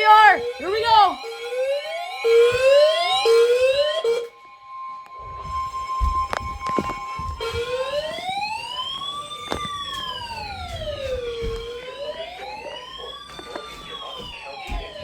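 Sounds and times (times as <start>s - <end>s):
wailing siren: 0.0s - 15.0s.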